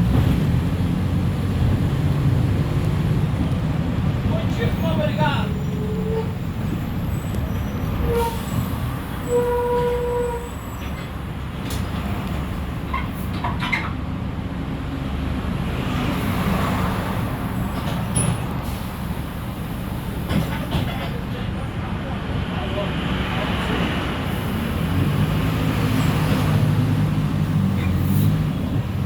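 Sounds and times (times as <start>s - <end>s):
bus diesel engine rumbling: 0.0s - 29.0s.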